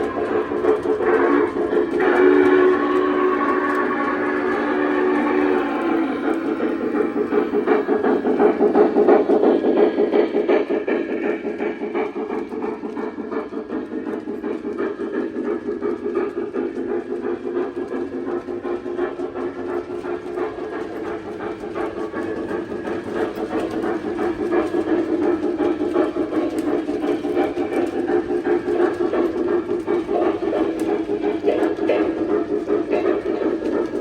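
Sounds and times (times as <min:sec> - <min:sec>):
model train rumbling: 0:00.0 - 0:34.0.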